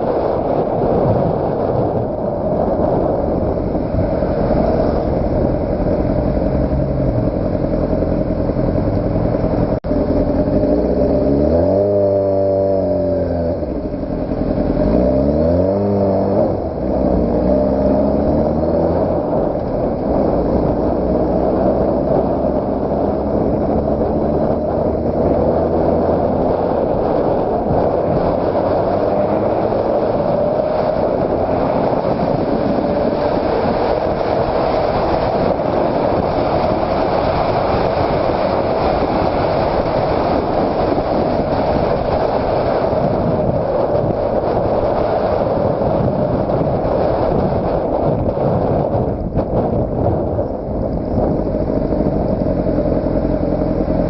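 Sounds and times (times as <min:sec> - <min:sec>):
motorcycle engine cruising: 0:00.0 - 0:54.0
road noise: 0:00.0 - 0:54.0
wind noise: 0:00.0 - 0:54.0.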